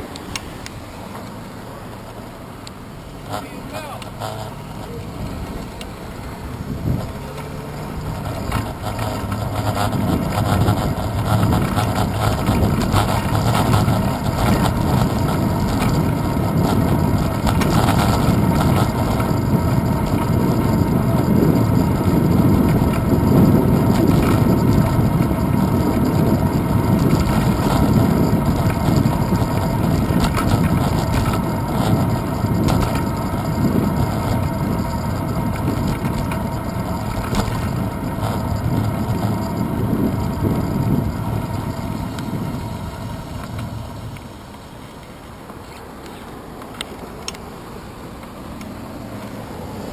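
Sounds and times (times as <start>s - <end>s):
bicycle rolling over asphalt: 0.0s - 49.9s
wind noise on microphone: 4.2s - 44.5s.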